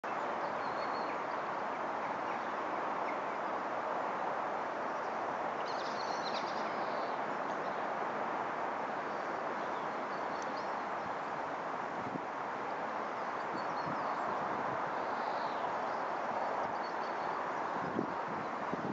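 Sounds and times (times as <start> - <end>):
steady outdoor hiss: 0.0 - 18.9.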